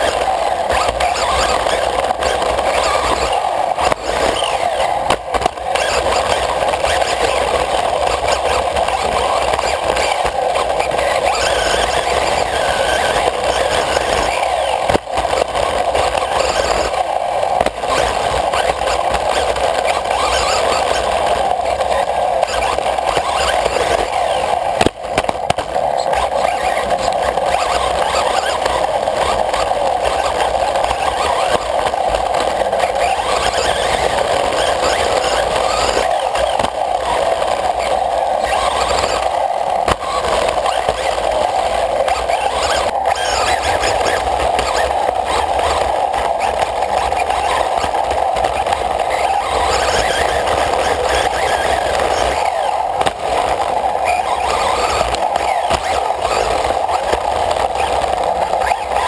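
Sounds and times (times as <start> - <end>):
rc buggy drivetrain whirr: 0.0 - 59.0.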